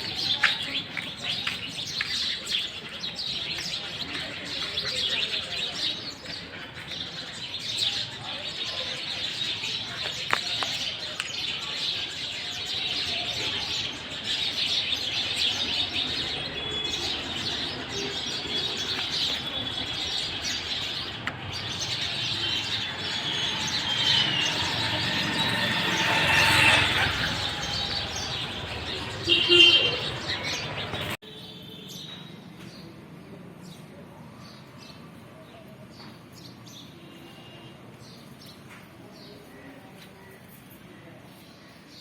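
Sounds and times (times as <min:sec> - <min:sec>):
small birds chirping and twittering: 0:00.0 - 0:42.0.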